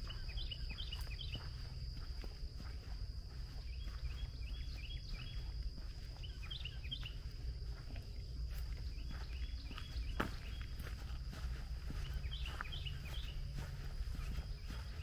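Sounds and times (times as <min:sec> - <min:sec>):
high insect drone: 0:00.0 - 0:15.0
songbird chirping: 0:00.0 - 0:15.0.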